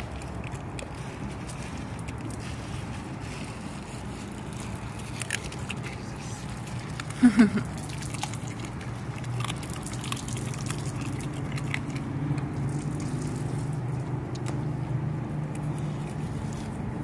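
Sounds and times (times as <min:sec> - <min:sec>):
dog licking wet clicks: 0:00.0 - 0:02.4, 0:04.2 - 0:16.9
low mechanical hum: 0:00.0 - 0:17.0.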